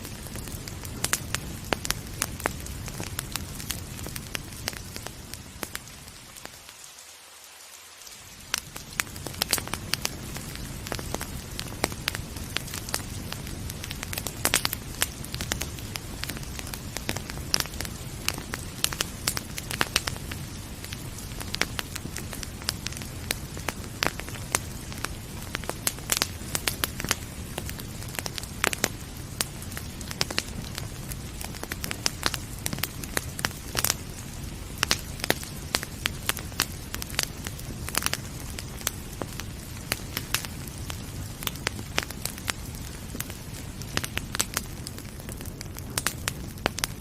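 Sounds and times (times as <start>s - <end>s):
wood fire crackling and popping: 0.0s - 6.9s, 8.0s - 47.0s
soft rain hiss: 0.0s - 47.0s.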